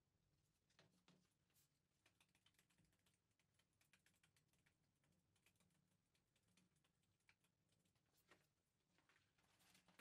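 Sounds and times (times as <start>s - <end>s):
faint clicks and ticks: 0.6s - 10.0s.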